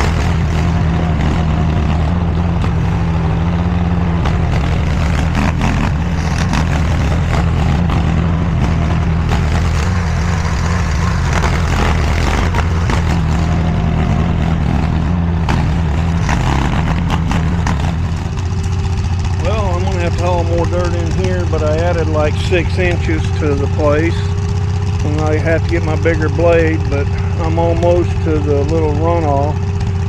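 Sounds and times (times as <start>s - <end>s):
skid steer engine running: 0.0s - 30.0s.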